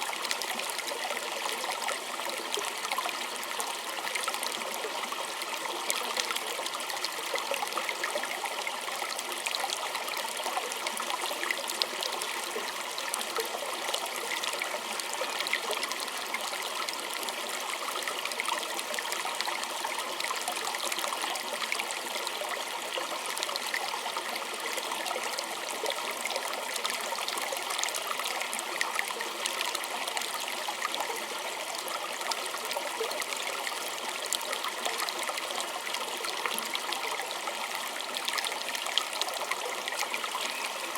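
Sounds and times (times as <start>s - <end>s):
small stream trickling: 0.0s - 40.9s.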